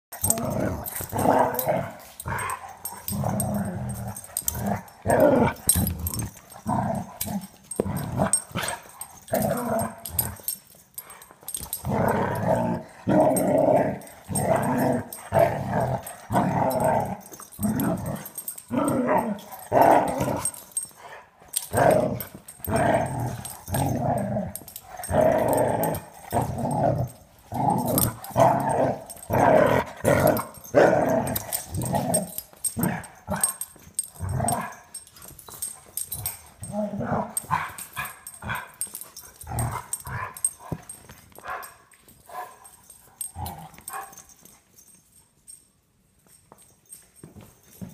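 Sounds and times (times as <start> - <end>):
dogs growling: 0.1 - 44.3.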